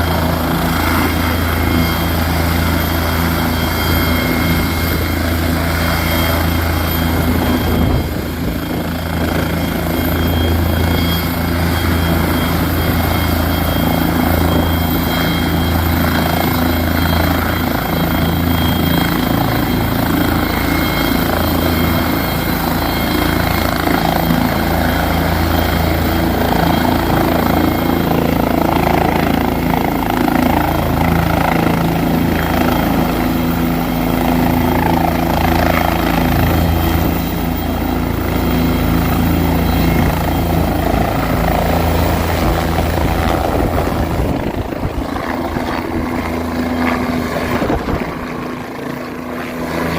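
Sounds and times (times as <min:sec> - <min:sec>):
helicopter rotor drone: 0:00.0 - 0:49.9
high turbine whine: 0:00.0 - 0:49.9.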